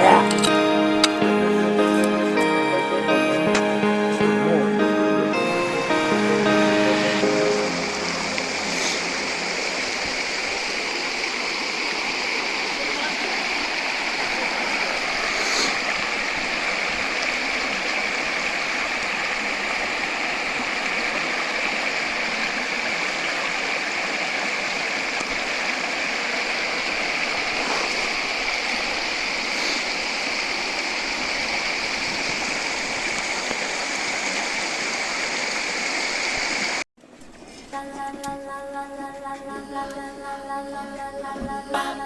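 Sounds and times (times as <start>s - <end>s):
river flowing: 0.0s - 36.8s, 37.8s - 42.0s.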